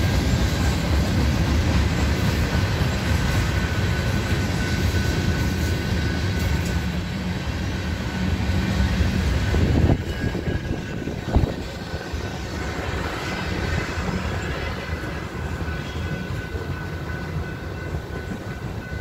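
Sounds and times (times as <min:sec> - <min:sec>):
train cars rolling on rails: 0:00.0 - 0:19.0.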